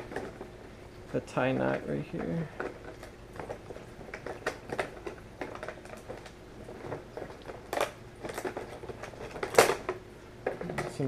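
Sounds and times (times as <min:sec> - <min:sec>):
plastic clatter: 0:00.0 - 0:00.5, 0:01.5 - 0:11.0
plastic packaging crinkling: 0:01.7 - 0:11.0.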